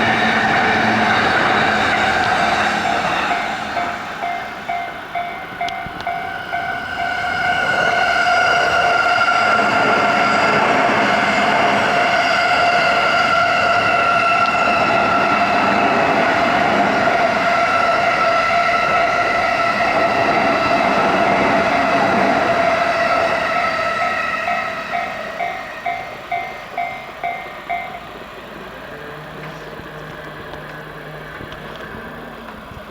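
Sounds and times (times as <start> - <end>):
electric train rumbling: 0.0 - 32.9
level crossing warning bell: 0.0 - 32.9.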